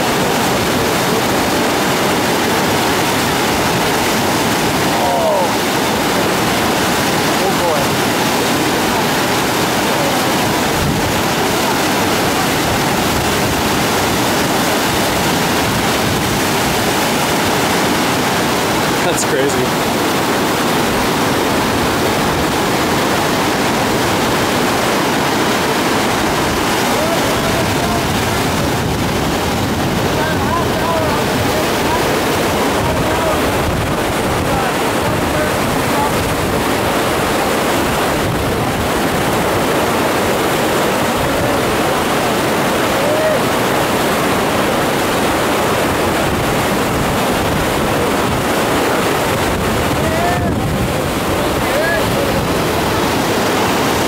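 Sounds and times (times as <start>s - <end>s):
river rushing roar: 0.0s - 54.0s.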